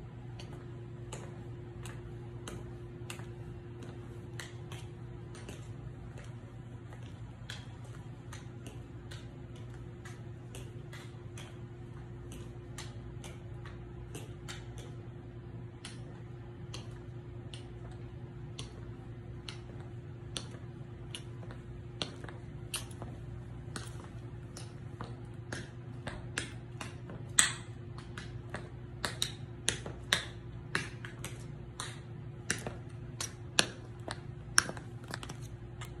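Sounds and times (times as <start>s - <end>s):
steady low hum: 0.0s - 36.0s
tap shoes clicking on hard floor: 0.1s - 36.0s.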